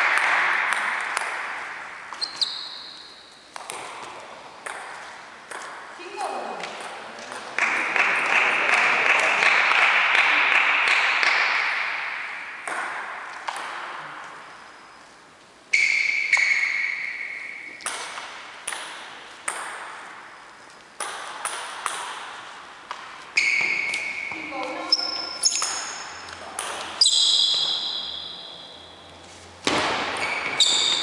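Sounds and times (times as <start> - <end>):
table tennis ball bouncing: 0.0 - 6.0, 6.6 - 14.6, 15.7 - 29.0, 29.6 - 31.0.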